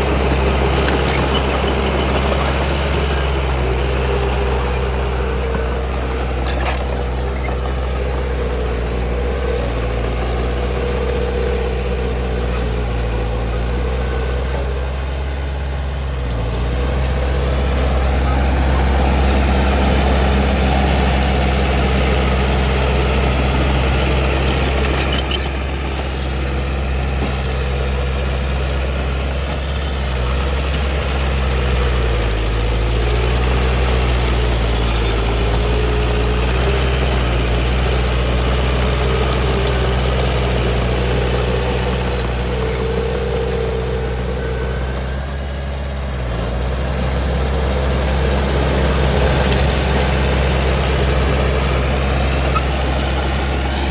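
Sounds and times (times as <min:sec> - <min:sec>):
bulldozer diesel engine running: 0:00.0 - 0:53.9.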